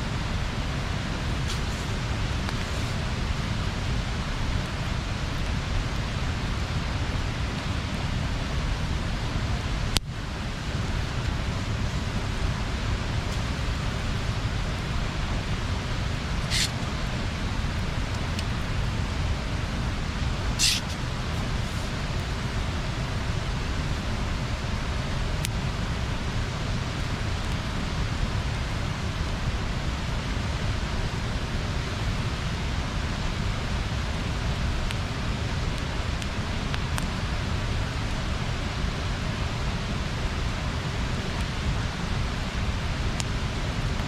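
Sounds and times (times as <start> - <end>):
water rushing over weir: 0.0 - 44.0.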